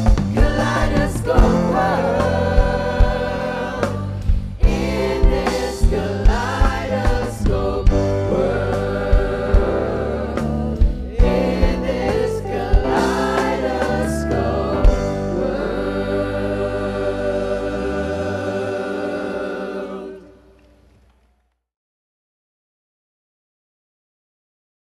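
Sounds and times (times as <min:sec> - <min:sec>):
group of young singers: 0:00.0 - 0:21.0
live band playing: 0:00.0 - 0:21.1.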